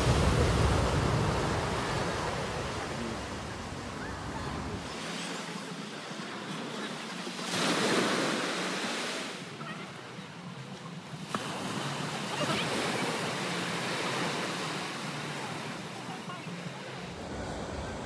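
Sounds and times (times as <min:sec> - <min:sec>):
ocean surf washing onto beach: 0:00.0 - 0:18.0.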